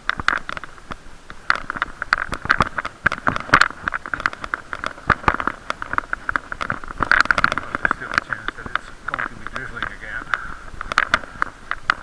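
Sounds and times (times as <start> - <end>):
rapid muffled clicks and knocks: 0.0 - 12.0.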